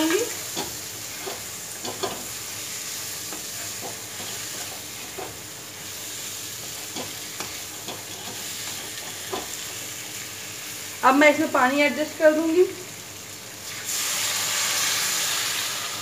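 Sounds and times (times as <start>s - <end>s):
frying hiss: 0.0s - 16.0s.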